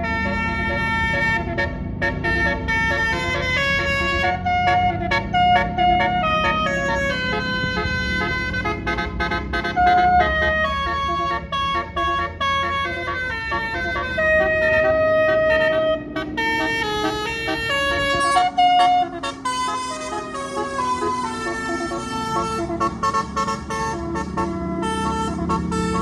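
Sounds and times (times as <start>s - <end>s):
bus air horn melody: 0.0s - 26.0s.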